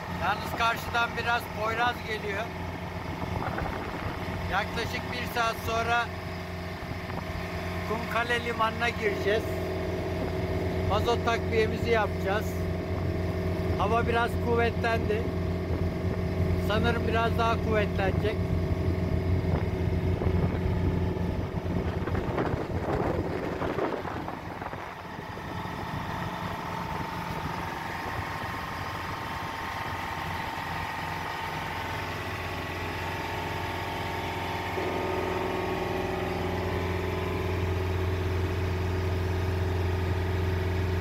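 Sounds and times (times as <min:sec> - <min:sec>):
motorboat diesel engine droning: 0:00.0 - 0:41.0.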